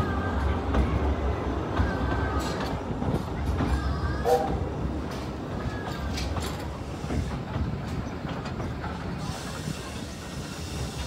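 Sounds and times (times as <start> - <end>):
train running over jointed track: 0.0 - 11.0.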